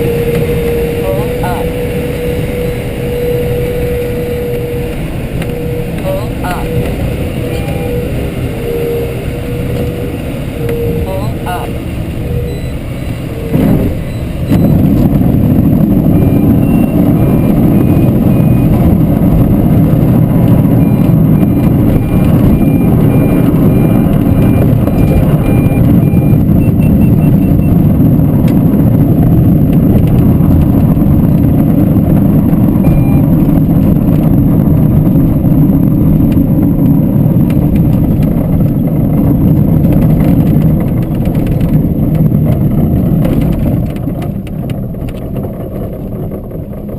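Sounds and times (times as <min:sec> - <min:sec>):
light aircraft engine drone: 0:00.0 - 0:46.9.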